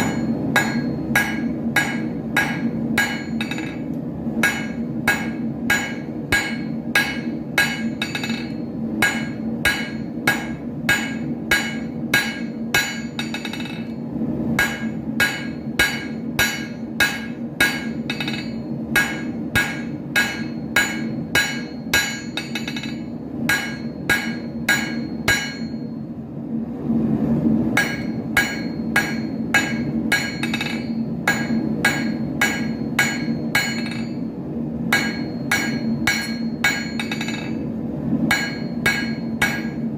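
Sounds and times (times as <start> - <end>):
hammer striking iron on anvil: 0.0 - 14.0, 14.6 - 26.0, 27.8 - 34.3, 34.9 - 37.7, 38.3 - 39.9
steady low hum: 0.0 - 39.9.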